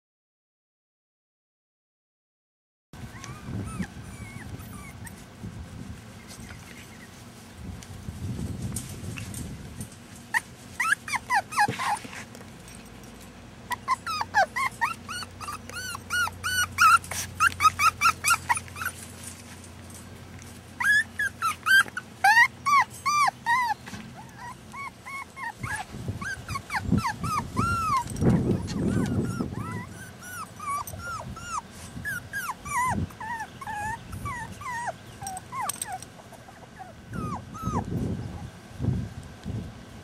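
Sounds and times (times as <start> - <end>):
puppies whining and yipping: 3.0 - 7.3, 9.4 - 13.0, 13.7 - 38.6.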